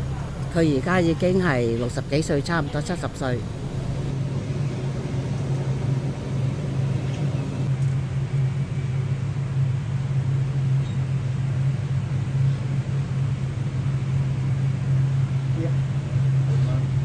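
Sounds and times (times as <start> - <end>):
roasting drum rumbling hum: 0.0 - 17.0.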